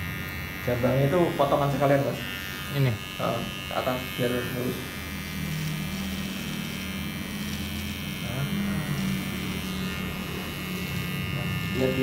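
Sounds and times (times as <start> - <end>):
electric hair trimmer buzzing: 0.0 - 12.0.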